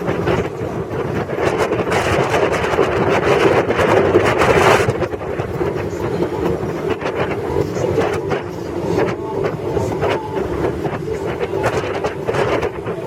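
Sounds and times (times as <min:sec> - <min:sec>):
hull slapping on waves: 0:00.0 - 0:13.0
motorboat engine drone: 0:00.0 - 0:13.0
wind on microphone: 0:00.0 - 0:13.0.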